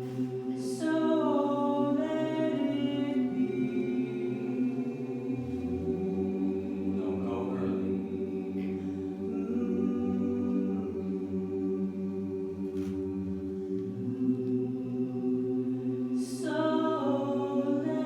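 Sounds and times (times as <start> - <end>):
chorus singing in close harmony: 0.0 - 18.0.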